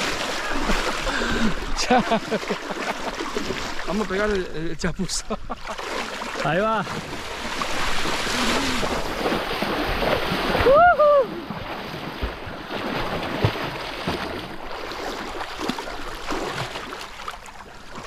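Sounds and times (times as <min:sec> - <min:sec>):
feet splashing through water: 0:00.0 - 0:18.0
water sloshing from swimming: 0:00.0 - 0:18.0.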